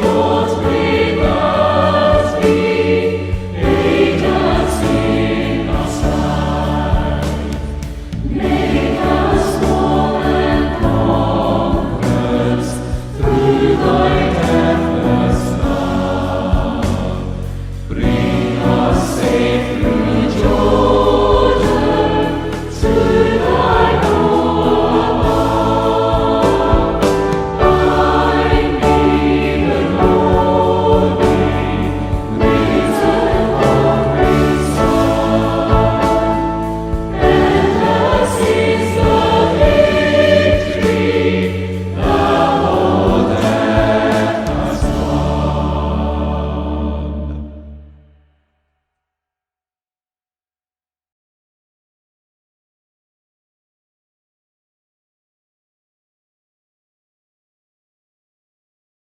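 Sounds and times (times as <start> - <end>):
held low accompanying notes: 0.0 - 47.5
choir singing a hymn: 0.0 - 48.1.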